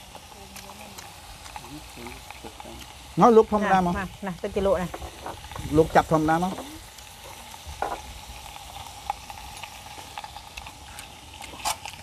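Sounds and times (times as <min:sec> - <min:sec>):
meat and fish sizzling on a grill: 0:00.0 - 0:12.0.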